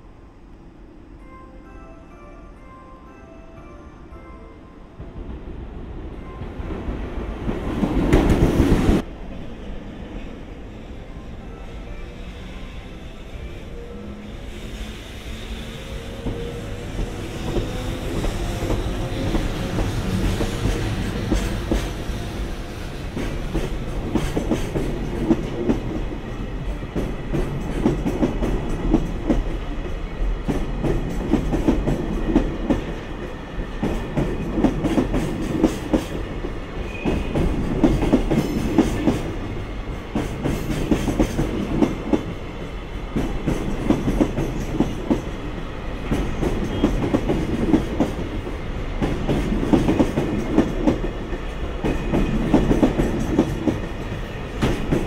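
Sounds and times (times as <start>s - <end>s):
continuous train rumble: 4.9s - 55.0s.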